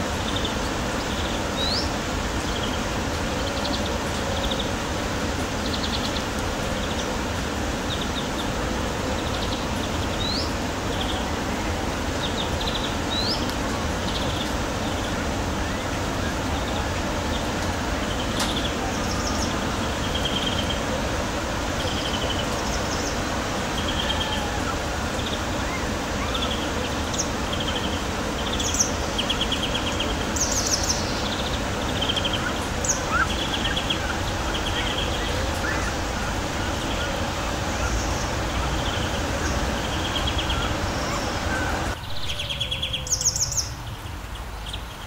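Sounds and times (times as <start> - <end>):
rain-like hiss: 0.0 - 45.0.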